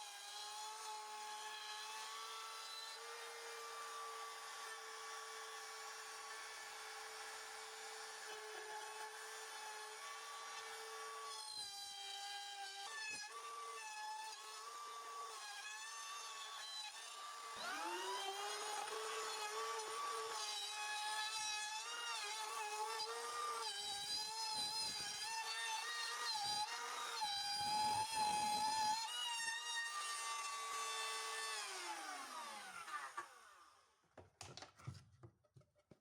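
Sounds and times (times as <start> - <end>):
power tool motor whine: 0.0 - 33.8.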